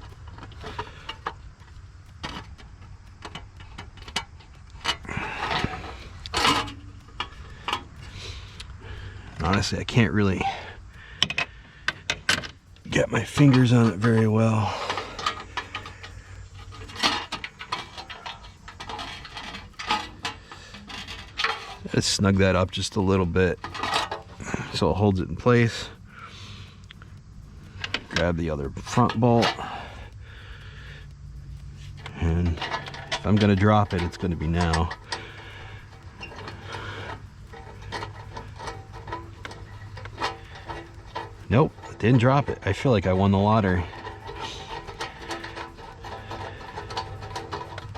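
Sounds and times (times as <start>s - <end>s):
bolt scraping in its thread: 0.0s - 25.8s, 31.6s - 47.9s
low steady hum: 0.0s - 47.9s
small metallic clicks: 0.0s - 47.9s.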